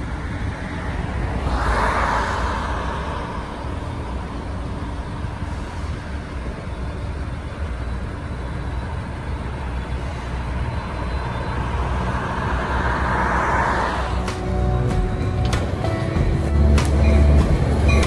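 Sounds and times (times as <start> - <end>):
car tyre noise passing: 0.0 - 18.0
train rumbling along track: 0.0 - 18.0.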